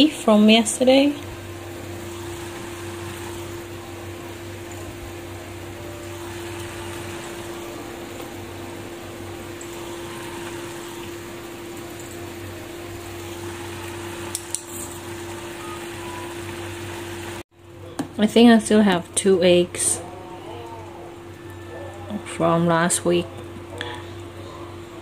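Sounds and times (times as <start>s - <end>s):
steady hiss and hum: 0.0s - 25.0s.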